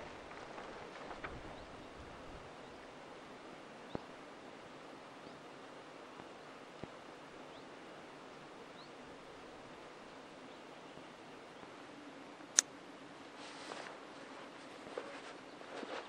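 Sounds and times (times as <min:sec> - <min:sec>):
steady soft hiss: 0:00.0 - 0:16.0.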